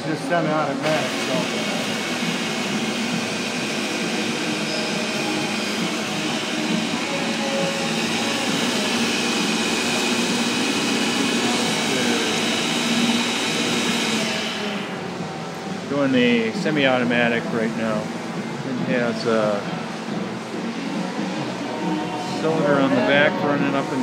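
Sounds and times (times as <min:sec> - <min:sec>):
band saw mechanical hum: 0:00.0 - 0:24.0.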